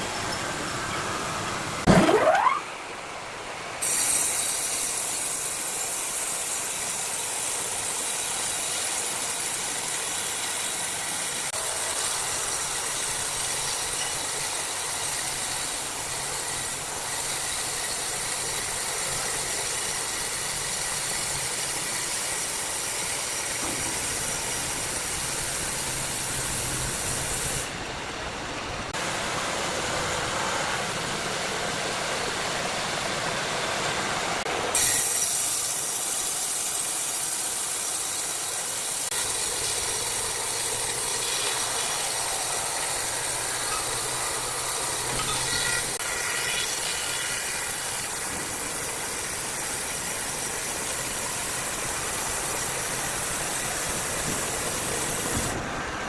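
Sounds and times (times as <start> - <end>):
sawmill saw cutting wood: 3.8 - 27.7, 33.9 - 55.6.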